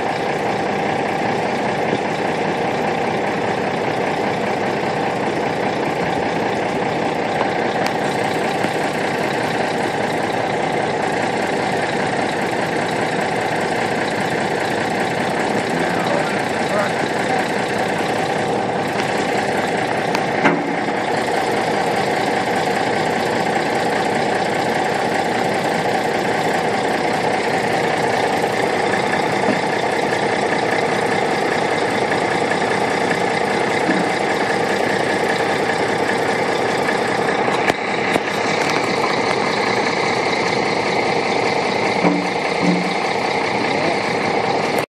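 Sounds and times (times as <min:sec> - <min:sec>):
truck engine idling: 0:00.0 - 0:44.9.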